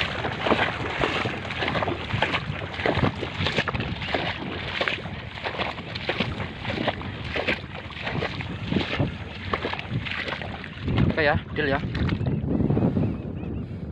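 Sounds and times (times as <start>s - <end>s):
pond water sloshing and splashing: 0.0s - 12.3s.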